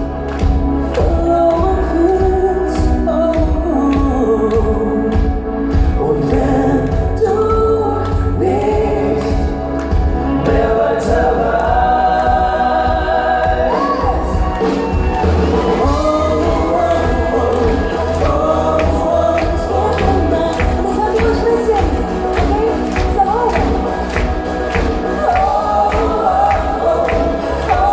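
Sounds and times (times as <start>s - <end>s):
band with steady beat: 0.0s - 27.9s
voices singing together: 0.0s - 27.9s.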